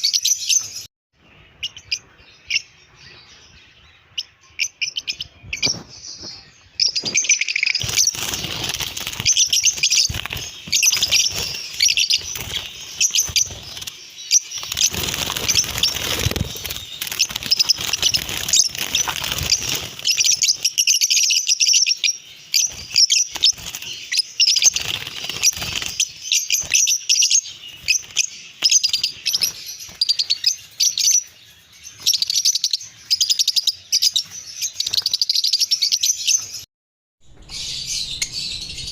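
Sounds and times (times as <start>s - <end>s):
lovebirds chirping: 0.0s - 36.7s, 37.3s - 38.9s.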